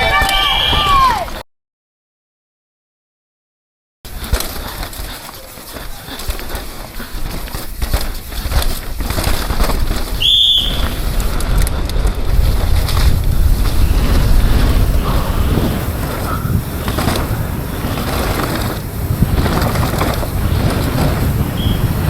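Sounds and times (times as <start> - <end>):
bike rattling: 4.1 - 22.0
tyres rumbling over rough ground: 4.1 - 22.0
wind buffeting microphone: 4.1 - 22.0.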